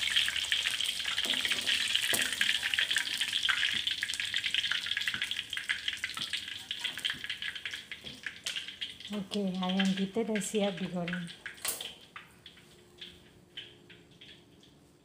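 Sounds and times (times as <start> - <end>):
chicken sizzling in hot oil: 0.0 - 12.1.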